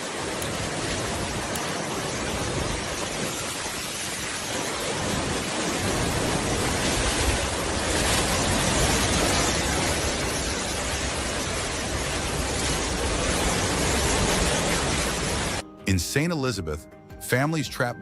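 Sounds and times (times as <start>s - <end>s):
wind and rain rushing: 0.0s - 15.6s.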